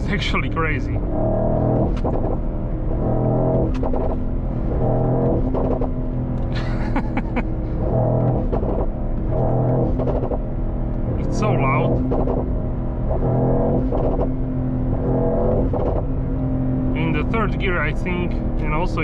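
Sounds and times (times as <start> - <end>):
exhaust pops and crackles: 0.0 - 16.3
car exhaust accelerating hard: 0.0 - 19.0.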